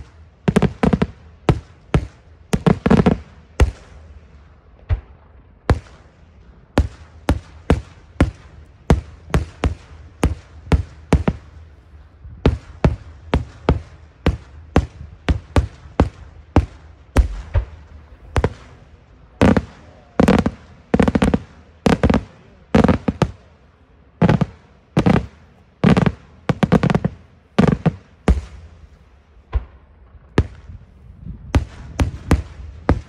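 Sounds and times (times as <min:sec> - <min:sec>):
fireworks bangs with echo: 0:00.0 - 0:33.0.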